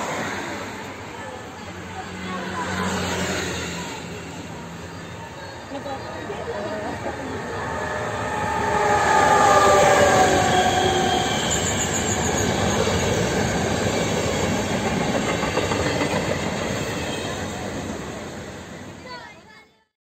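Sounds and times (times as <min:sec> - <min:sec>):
train wheels rushing on rails: 0:00.0 - 0:19.3.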